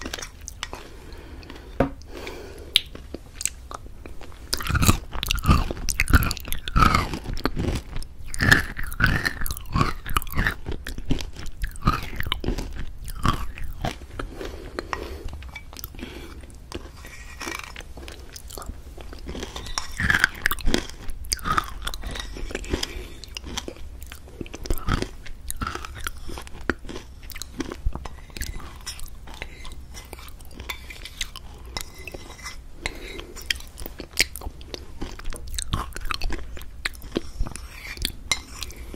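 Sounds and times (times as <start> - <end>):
close crunching and chewing: 0.0 - 38.9.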